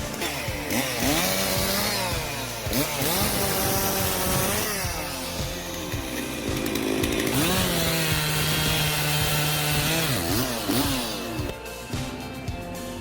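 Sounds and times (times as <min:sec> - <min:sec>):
chainsaw revving: 0:00.0 - 0:11.6.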